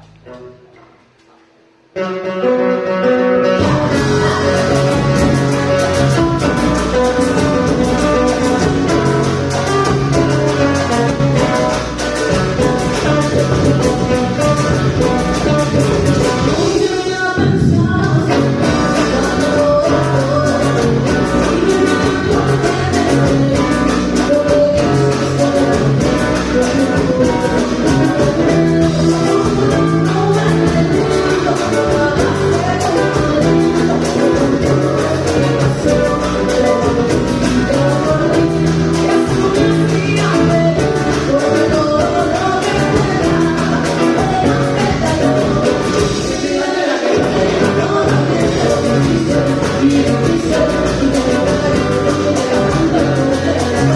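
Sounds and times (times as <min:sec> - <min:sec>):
latin band music with guitar: 0:00.0 - 0:53.9.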